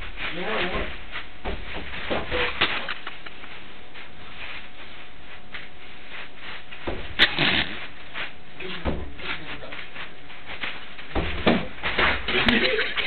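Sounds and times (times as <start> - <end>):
mattress bumping and rubbing: 0.0 - 13.0.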